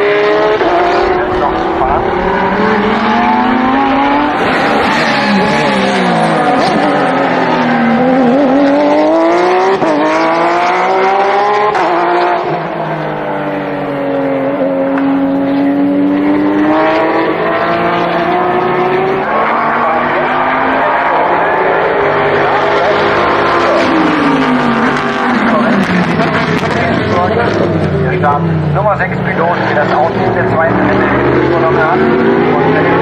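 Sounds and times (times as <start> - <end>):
race car engines running hard: 0.0 - 33.0.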